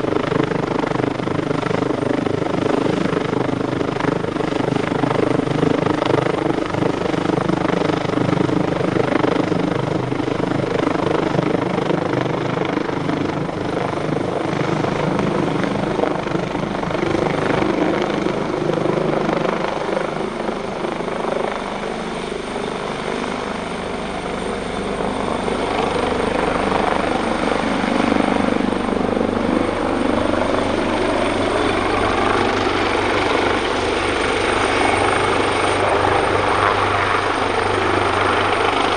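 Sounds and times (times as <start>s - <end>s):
helicopter engines and rotor: 0.0s - 38.9s
high turbine whine: 0.0s - 38.9s.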